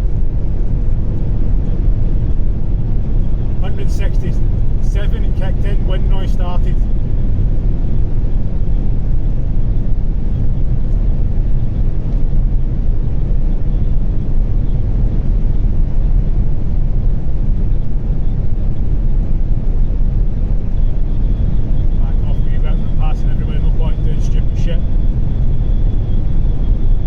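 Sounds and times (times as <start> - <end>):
road noise inside car: 0.0 - 27.0.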